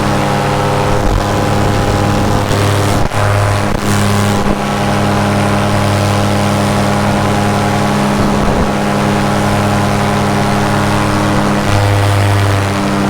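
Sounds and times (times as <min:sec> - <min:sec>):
paramotor engine drone: 0:00.0 - 0:13.0.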